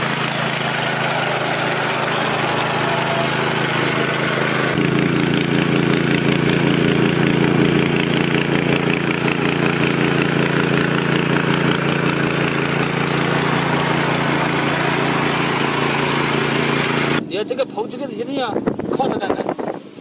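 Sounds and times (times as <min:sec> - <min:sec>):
machine engine humming and clattering: 0:00.0 - 0:17.3.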